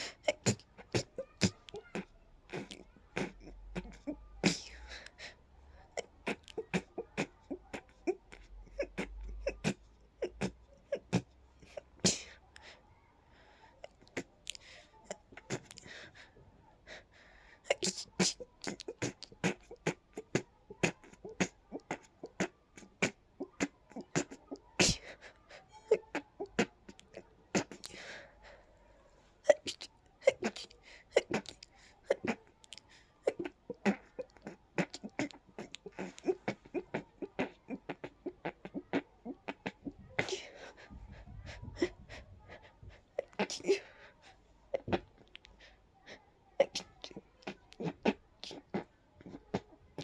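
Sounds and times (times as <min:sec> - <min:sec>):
person stifled sneezes: 0:00.0 - 0:12.8, 0:13.8 - 0:50.0.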